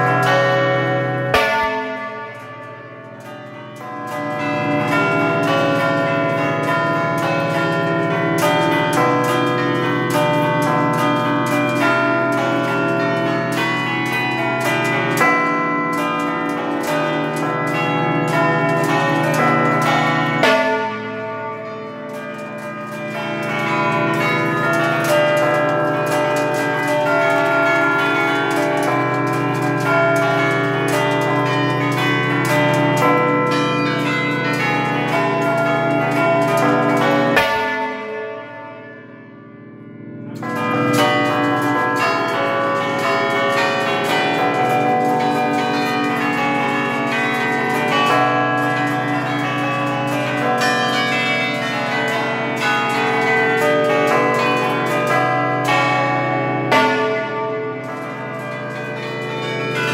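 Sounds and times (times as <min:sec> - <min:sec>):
church bells ringing up close: 0:00.0 - 0:59.9.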